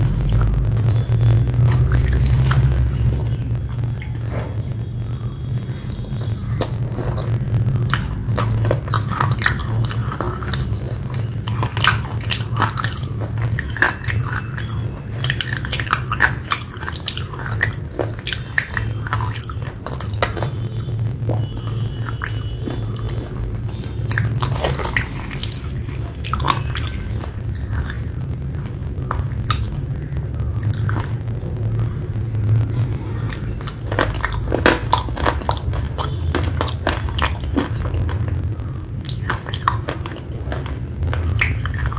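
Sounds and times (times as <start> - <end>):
mouth chewing wet paste: 0.0 - 41.9
steady low hum: 0.0 - 41.9.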